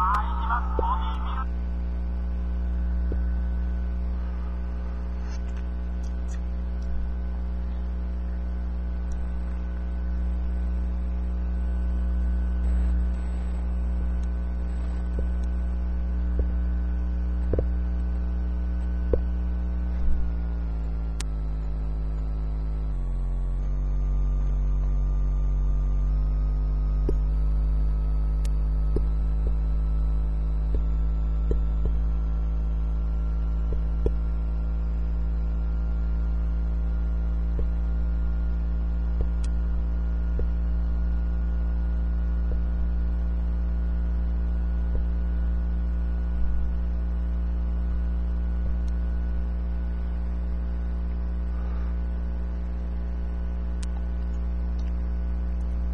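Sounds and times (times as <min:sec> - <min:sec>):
steady electrical hum: 0:00.0 - 0:55.9.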